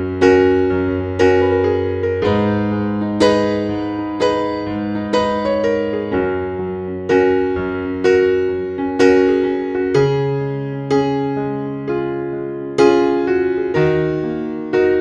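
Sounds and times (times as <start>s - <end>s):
keyboard notes and chords: 0.0s - 15.0s.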